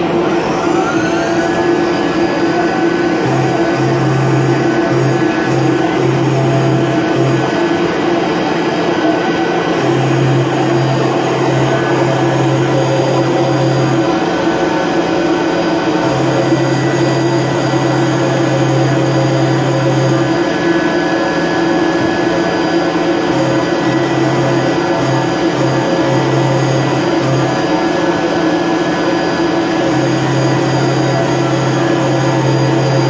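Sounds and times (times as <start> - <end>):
low drone: 0.0 - 33.0
mill spindle whine and cutting: 0.0 - 33.0.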